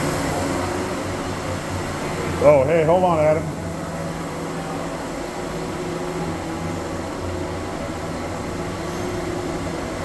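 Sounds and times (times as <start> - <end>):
factory machinery hum: 0.0 - 10.0.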